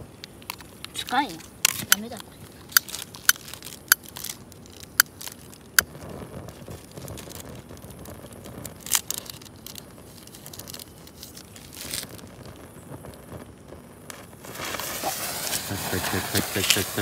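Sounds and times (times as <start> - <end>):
firework hissing: 0.0 - 17.0.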